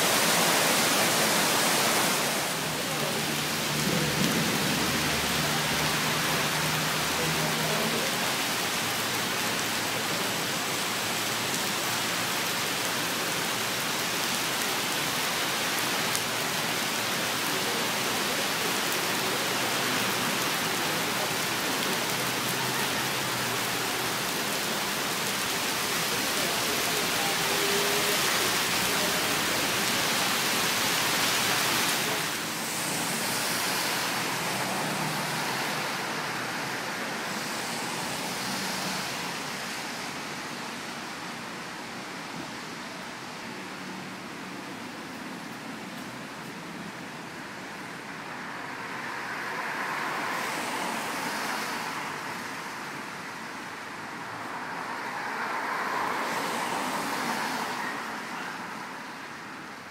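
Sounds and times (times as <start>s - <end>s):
heavy rain on a wet street: 0.0s - 59.9s.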